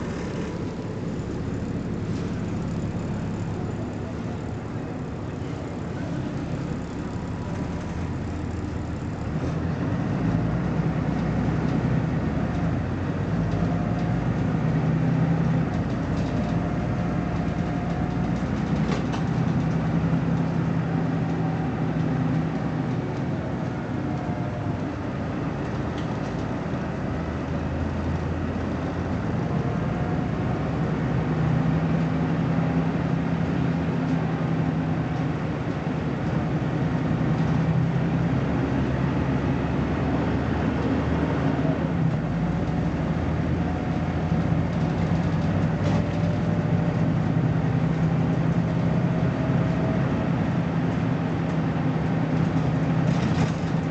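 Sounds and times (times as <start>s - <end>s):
bus diesel engine drone: 0.0s - 53.9s.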